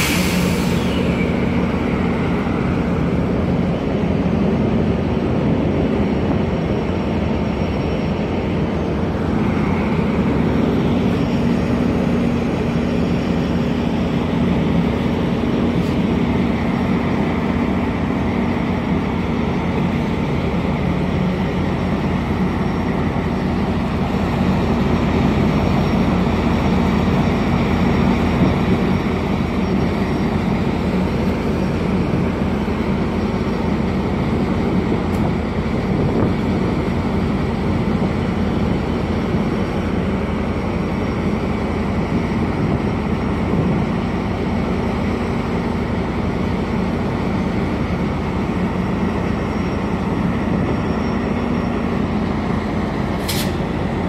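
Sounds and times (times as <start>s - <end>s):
diesel locomotive humming: 0.0s - 54.0s
train rolling past: 0.0s - 54.0s.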